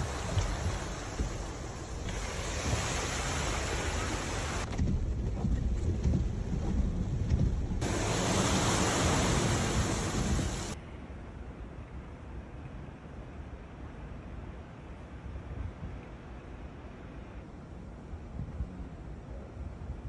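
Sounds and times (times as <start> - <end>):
steady rushing noise: 0.0 - 18.8.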